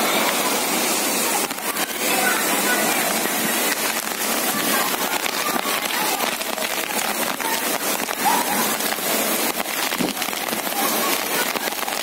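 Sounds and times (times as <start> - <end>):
faint children's voices: 0.0 - 12.0
heavy rain on street: 0.0 - 12.0.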